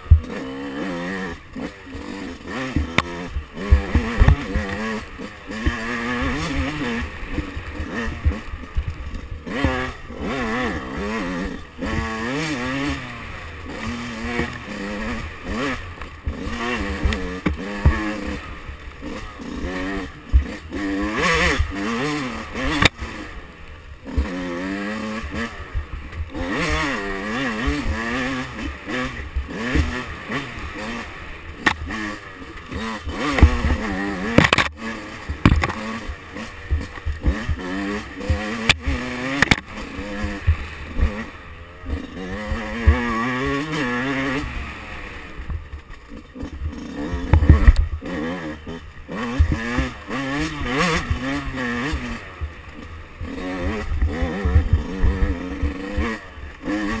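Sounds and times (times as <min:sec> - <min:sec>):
dirt bike engine revving: 0:00.0 - 0:57.0
low thumps over rough ground: 0:00.0 - 0:57.0.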